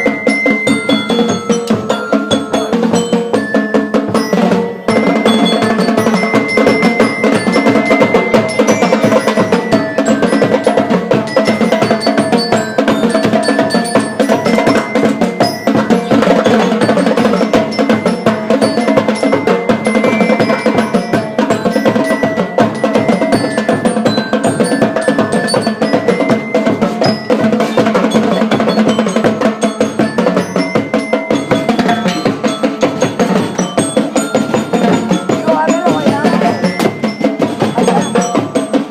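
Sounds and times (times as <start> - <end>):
bell lyre melody: 0.0 - 38.9
drums beating fast rhythm: 0.0 - 38.9
marching band playing: 0.0 - 38.9.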